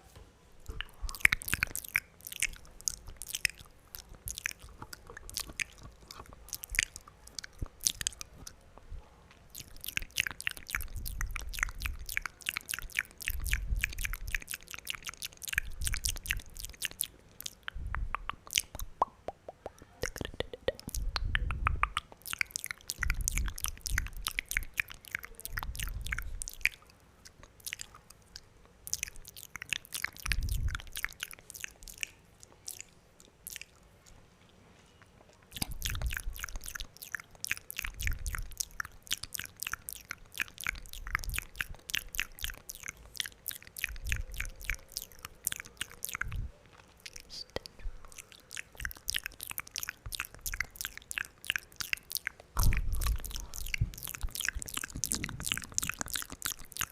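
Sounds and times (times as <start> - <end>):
wet mouth clicks and pops: 0.6 - 8.9, 9.5 - 34.2, 35.4 - 56.9.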